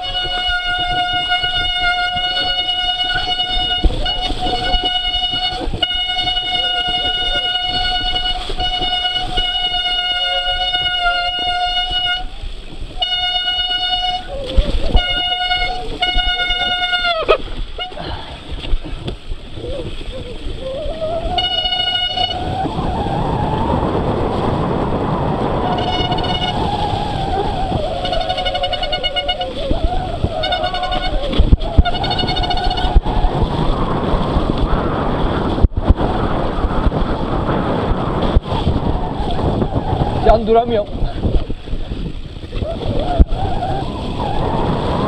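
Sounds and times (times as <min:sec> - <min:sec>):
wind rush on microphone: 0:00.0 - 0:45.0.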